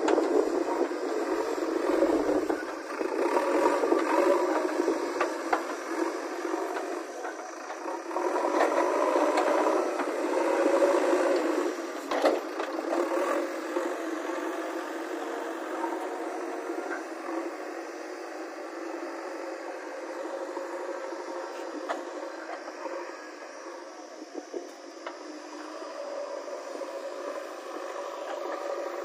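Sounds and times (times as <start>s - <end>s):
diesel engine rattling and clanking: 0.0s - 29.0s.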